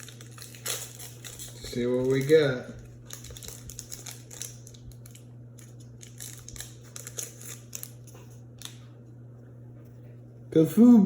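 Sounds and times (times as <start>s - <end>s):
foil wrapper crinkling and tearing: 0.0s - 8.9s
faint steady hum: 0.0s - 11.0s.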